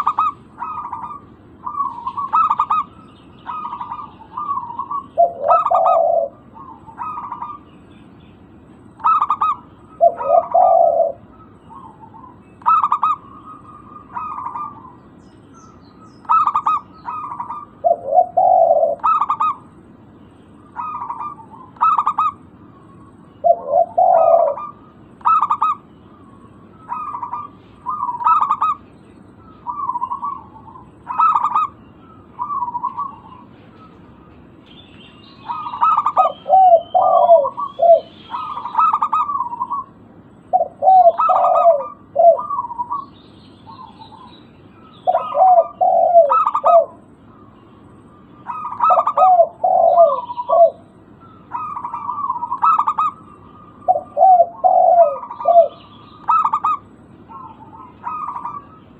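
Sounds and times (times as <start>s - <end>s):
lower fuller dove coo: 0.0s - 7.7s, 9.0s - 15.0s, 16.2s - 19.7s, 20.7s - 34.4s, 35.4s - 43.1s, 45.0s - 47.2s, 48.4s - 58.9s
doves cooing: 0.0s - 19.9s, 20.5s - 34.6s, 35.2s - 58.9s.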